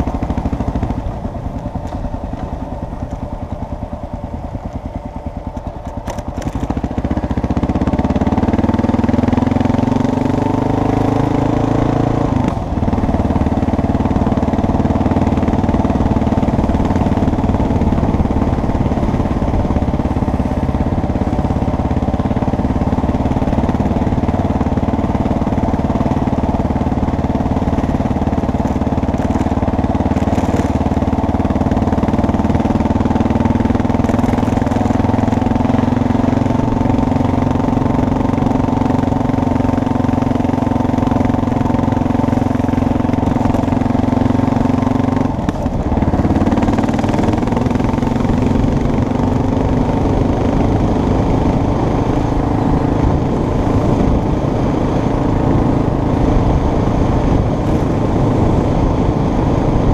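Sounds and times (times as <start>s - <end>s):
vehicle engine pulling away: 0.0s - 59.9s.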